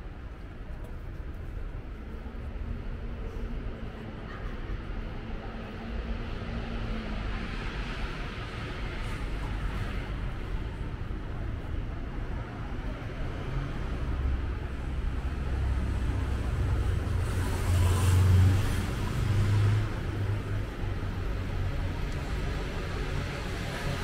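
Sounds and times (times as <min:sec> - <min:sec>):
cars passing on street: 0:00.0 - 0:24.0.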